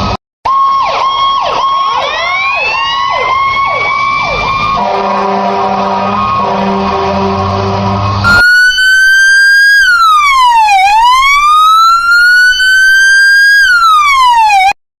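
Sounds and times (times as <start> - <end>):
emergency vehicle siren wailing: 0.5 - 14.8.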